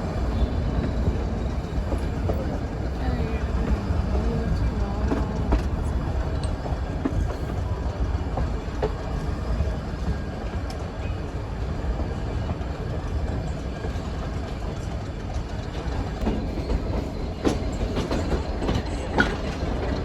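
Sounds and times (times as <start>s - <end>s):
train rumbling: 0.0s - 20.0s
wheels clicking over rail joints: 0.0s - 20.0s.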